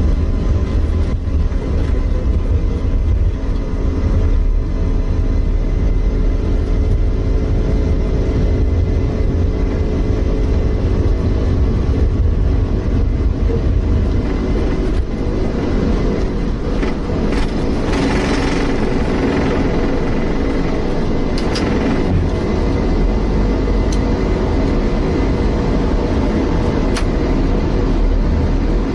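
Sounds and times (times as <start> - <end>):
jet engines roaring: 0.0 - 28.9.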